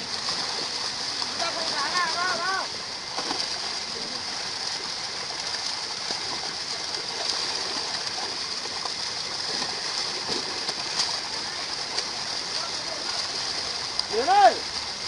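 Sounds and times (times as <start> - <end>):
fish thrashing and splashing: 0.0 - 14.2.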